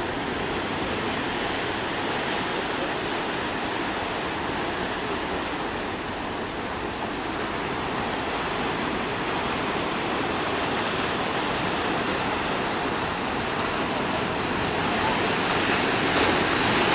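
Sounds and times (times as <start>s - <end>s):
waves breaking and washing: 0.0s - 16.9s.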